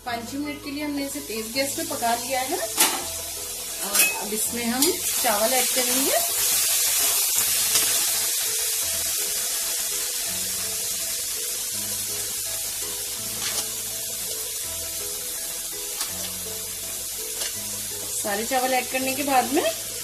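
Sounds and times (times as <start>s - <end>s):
background music: 0.0s - 20.0s
vegetables sizzling: 0.2s - 20.0s.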